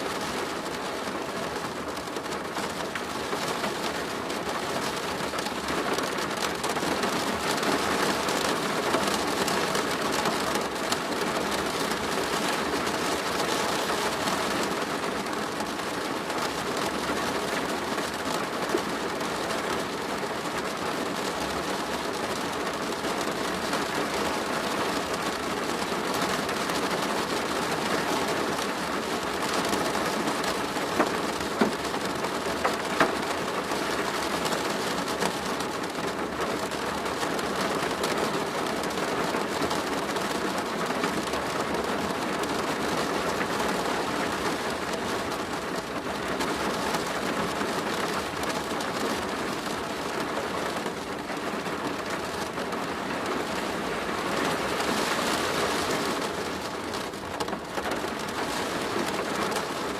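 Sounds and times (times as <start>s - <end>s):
rain on a plastic roof: 0.0s - 59.9s.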